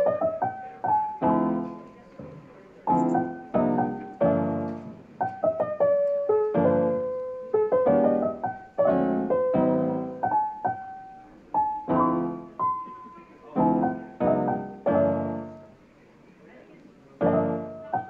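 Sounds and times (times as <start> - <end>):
soft piano tune: 0.0 - 18.0.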